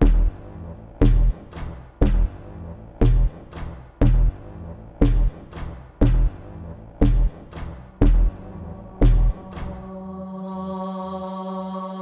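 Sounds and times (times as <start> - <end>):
music with heavy drum beat: 0.0 - 9.9.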